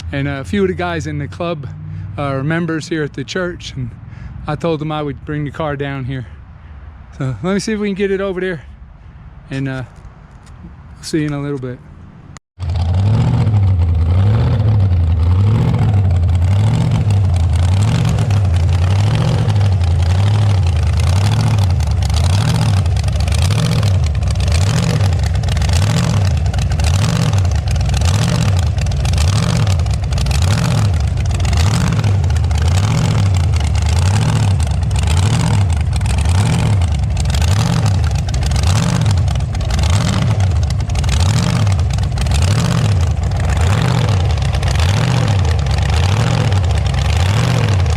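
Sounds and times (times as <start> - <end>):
hot rod engine rumbling: 0.0 - 47.9.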